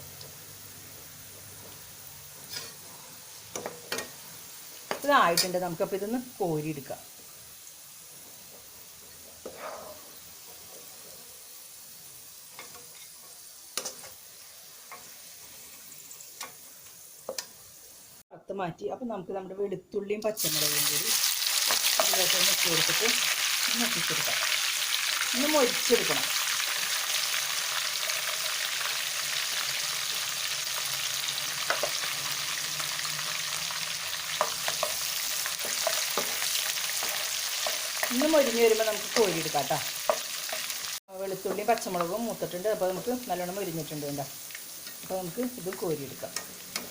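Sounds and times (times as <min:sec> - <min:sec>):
hot oil sizzling in a pan: 0:00.0 - 0:18.2, 0:20.4 - 0:46.9.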